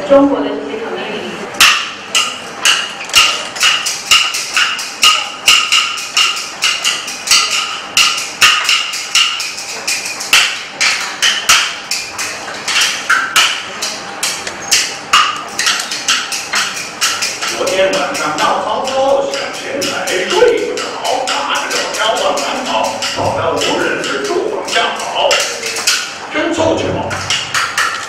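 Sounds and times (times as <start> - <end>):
bamboo clappers clacking: 1.6 - 28.0.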